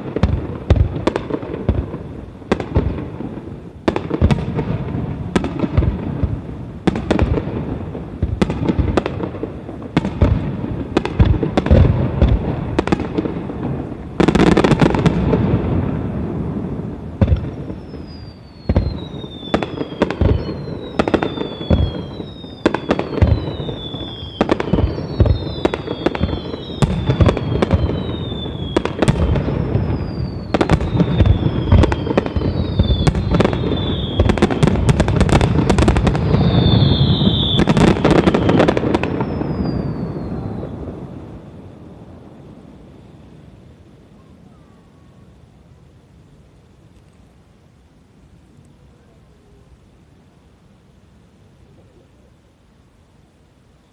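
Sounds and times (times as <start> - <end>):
fireworks rumble and crackle: 0.0 - 53.9
long rush of fireworks: 0.0 - 53.9
whistling fireworks: 0.0 - 53.9.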